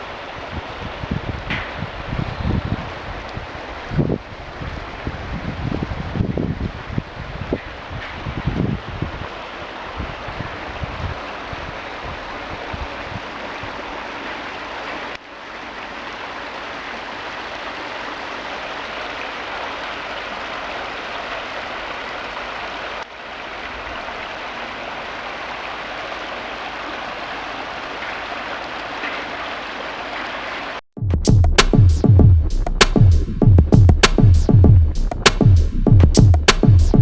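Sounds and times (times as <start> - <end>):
stream rushing and splashing: 0.0 - 30.8.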